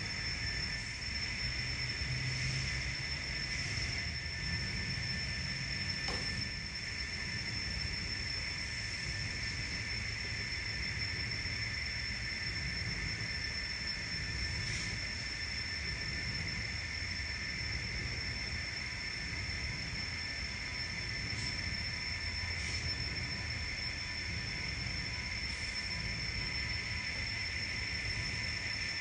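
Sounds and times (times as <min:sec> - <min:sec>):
high whine: 0:00.0 - 0:29.0.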